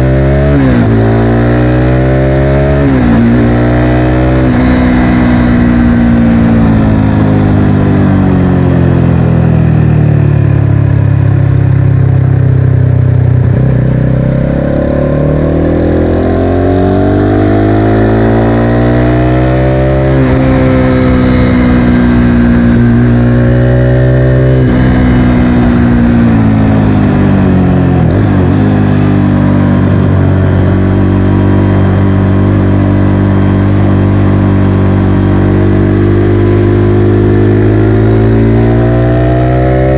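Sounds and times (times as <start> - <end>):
motorcycle engine changing gears: 0.0 - 9.6, 11.1 - 39.9.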